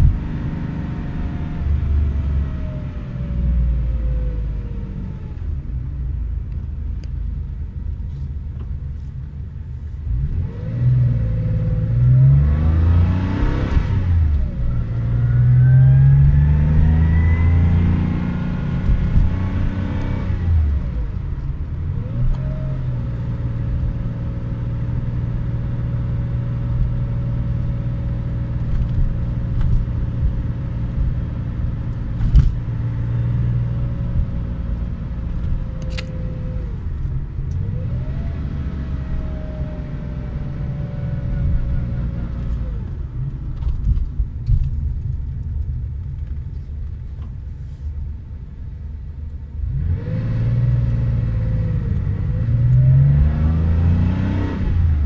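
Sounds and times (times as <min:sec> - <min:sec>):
road noise: 0:00.0 - 0:55.0
car engine accelerating: 0:09.8 - 0:47.9, 0:48.8 - 0:55.0.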